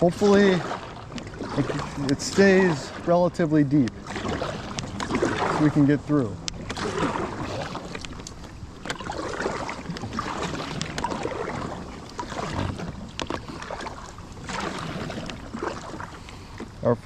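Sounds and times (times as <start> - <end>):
kayak paddle splashing water: 0.0 - 16.8.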